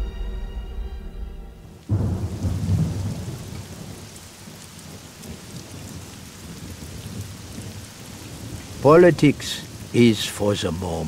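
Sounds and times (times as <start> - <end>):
rain falling: 1.7 - 11.0
thunder rumble: 1.7 - 11.0.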